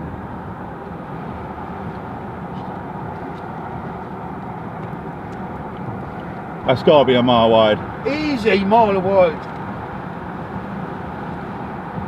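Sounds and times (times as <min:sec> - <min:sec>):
road and engine noise in vehicle: 0:00.0 - 0:12.0.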